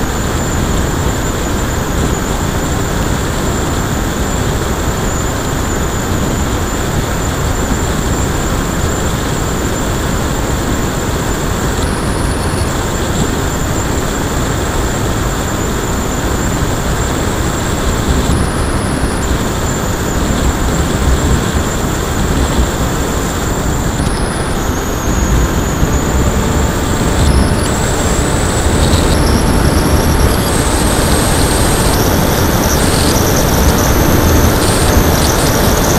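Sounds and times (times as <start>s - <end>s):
electric motor and propeller whine: 0.0s - 35.9s
wind rush and rumble: 0.0s - 35.9s.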